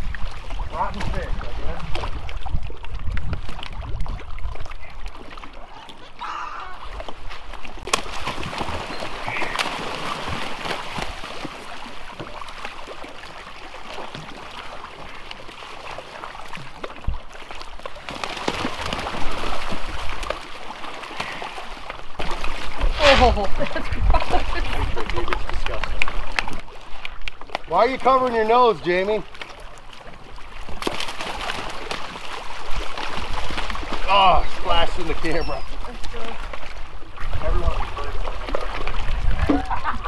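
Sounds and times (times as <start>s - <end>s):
birds splashing and flapping: 0.0s - 40.0s.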